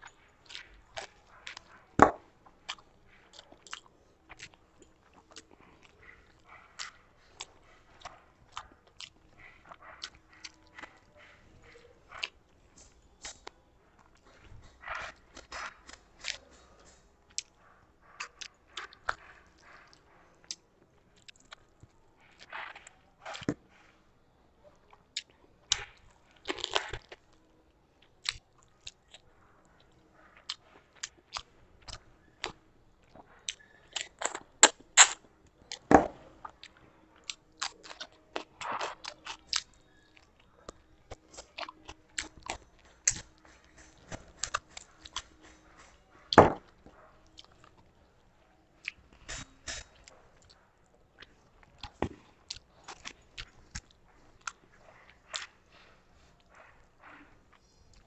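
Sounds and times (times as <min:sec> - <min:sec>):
person chewing with wet smacking: 0:00.0 - 0:58.0.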